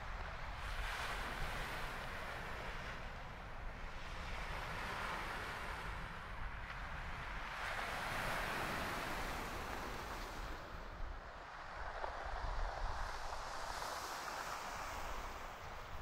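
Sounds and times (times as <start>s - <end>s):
wind rumbling on microphone: 0.0s - 16.0s
sea waves washing onto shore: 0.2s - 16.0s.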